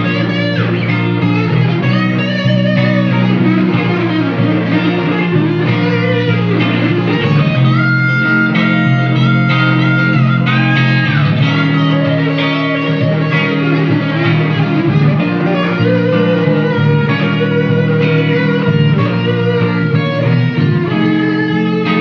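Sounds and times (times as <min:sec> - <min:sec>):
blues electric guitar solo: 0:00.0 - 0:22.0
low accompaniment: 0:00.0 - 0:22.0.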